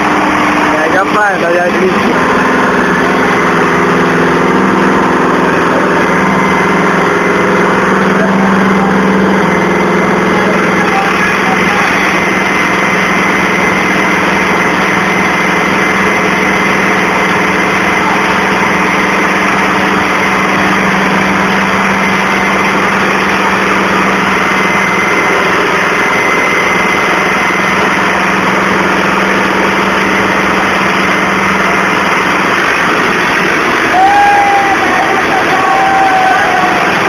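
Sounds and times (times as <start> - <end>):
tractor diesel engines droning: 0.0 - 37.0.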